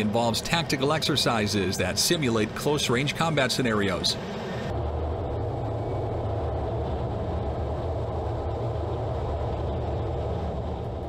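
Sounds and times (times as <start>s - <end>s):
jet engine and rushing air: 0.0s - 11.0s.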